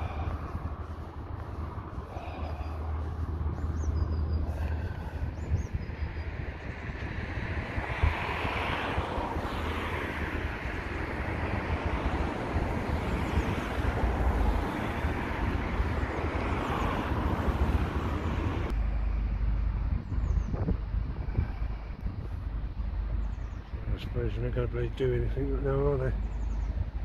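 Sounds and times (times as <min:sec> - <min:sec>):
road traffic passing: 0:00.0 - 0:27.0
wind rumbling on microphone: 0:00.0 - 0:27.0.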